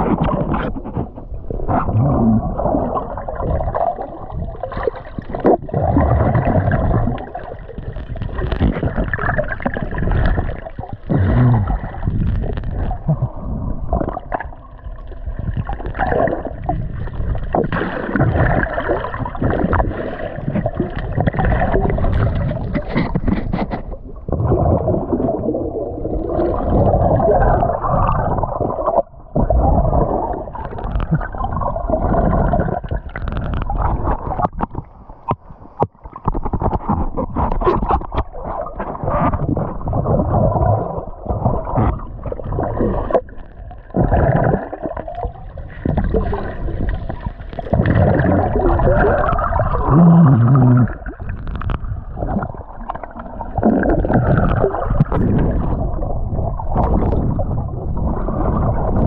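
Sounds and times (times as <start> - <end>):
underwater knocks and clicks: 0.0 - 59.0
underwater water rushing: 0.0 - 59.0.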